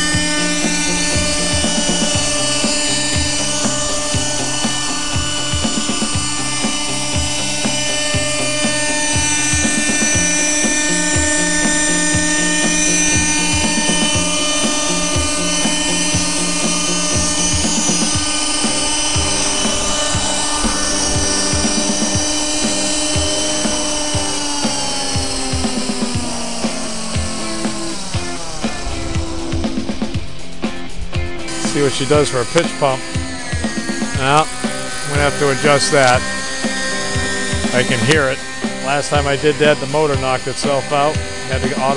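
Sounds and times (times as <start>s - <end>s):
model helicopter engine whining: 0.0s - 41.9s.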